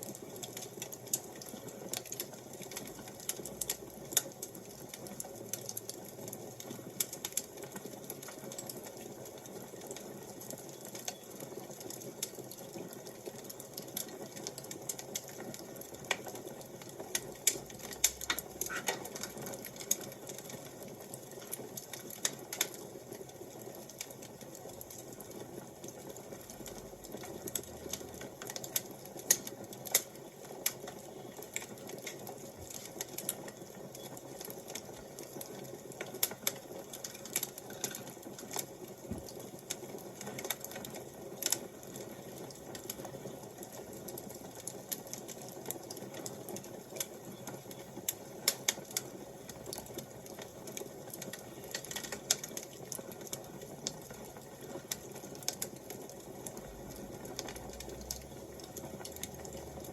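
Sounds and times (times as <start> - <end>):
fire crackling and popping: 0.0 - 59.9
low hiss of burning: 0.0 - 59.9.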